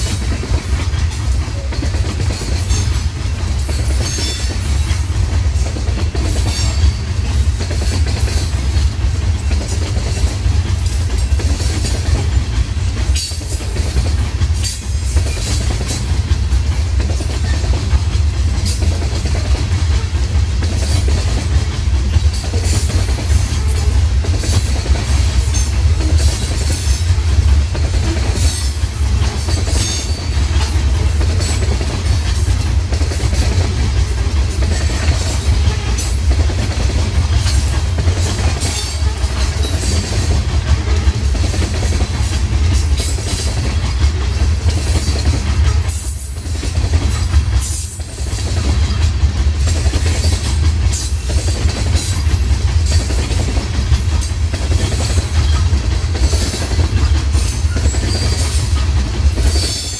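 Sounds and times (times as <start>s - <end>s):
low rumble of train: 0.0s - 59.9s
train wheels clacking over rail joints: 0.0s - 59.9s.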